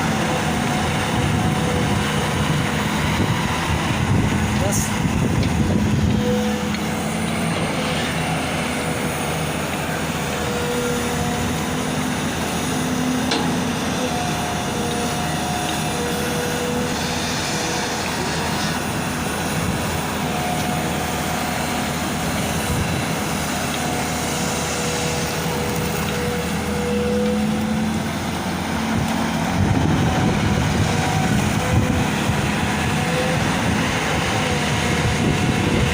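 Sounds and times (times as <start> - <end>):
excavator diesel engine: 0.0 - 35.9
whining tone: 0.0 - 35.9.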